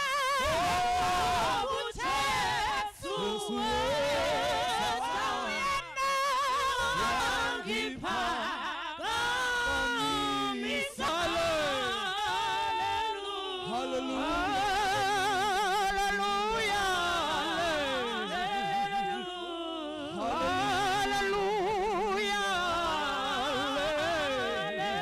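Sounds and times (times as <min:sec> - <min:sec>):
women singing gospel in harmony: 0:00.0 - 0:25.0.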